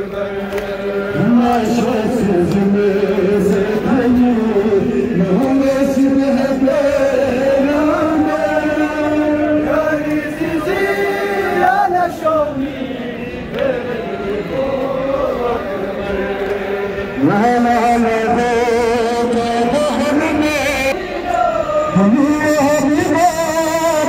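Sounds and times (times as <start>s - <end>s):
group of voices singing held notes: 0.0s - 24.0s
men chanting a lament: 0.0s - 24.0s.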